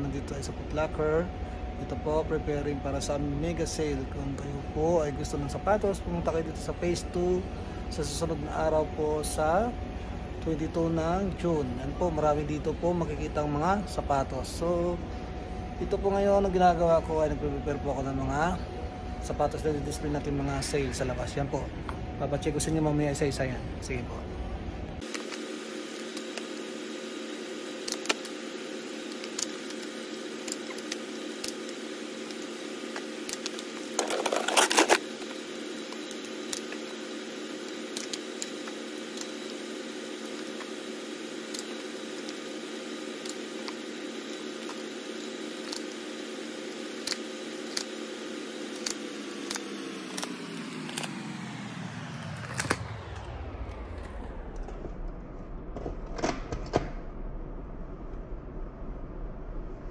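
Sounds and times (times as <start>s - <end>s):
steady multi-tone hum: 0.0s - 59.9s.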